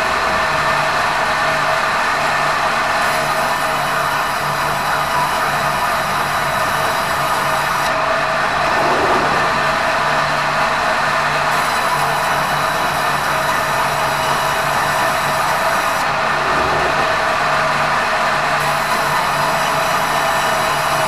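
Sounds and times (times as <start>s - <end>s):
band saw running: 0.0s - 21.0s.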